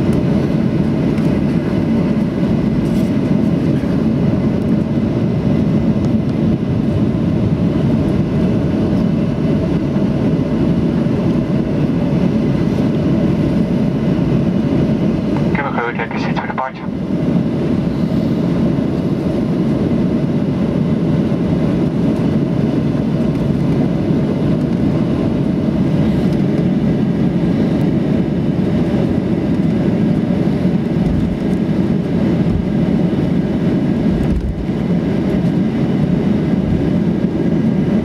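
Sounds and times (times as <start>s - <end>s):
airplane cabin rumble: 0.0s - 38.0s
jet engines running: 0.0s - 38.0s.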